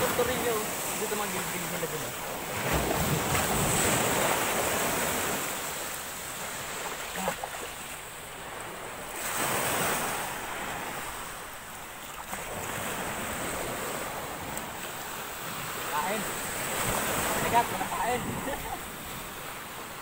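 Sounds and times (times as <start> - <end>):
small waves washing on sand: 0.0 - 20.0.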